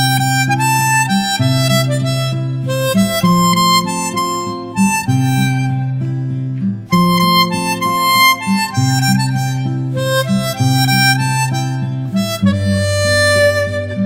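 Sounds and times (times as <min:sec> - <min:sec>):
background music with chords and melody: 0:00.0 - 0:14.0.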